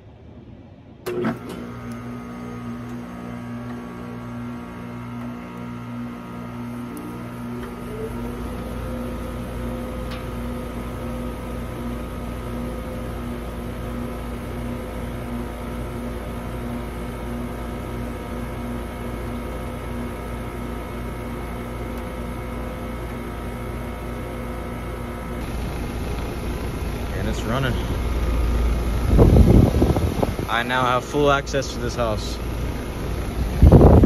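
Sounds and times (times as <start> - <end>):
heat pump humming: 0.8 - 34.0.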